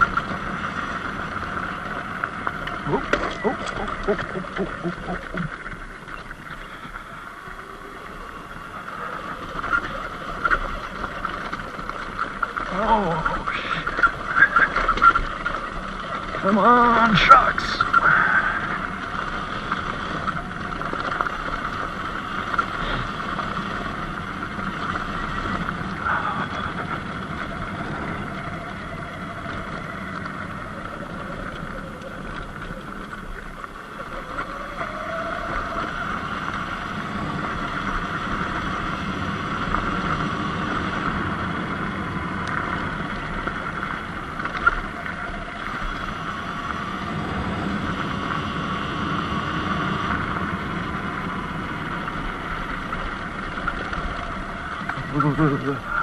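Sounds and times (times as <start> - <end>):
tyre noise: 0.0 - 47.8.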